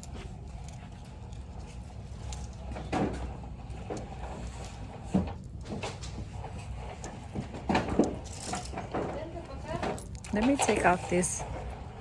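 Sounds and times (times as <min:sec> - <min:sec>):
ventilation hum: 0:00.0 - 0:12.0.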